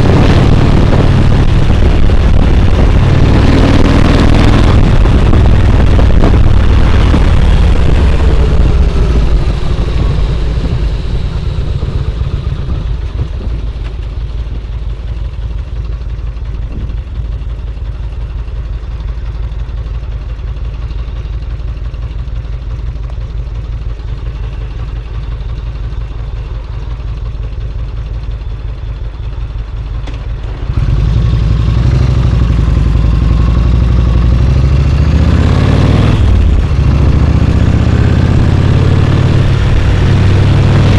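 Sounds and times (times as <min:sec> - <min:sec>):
motorcycle engine low pulse: 0:00.0 - 0:40.9.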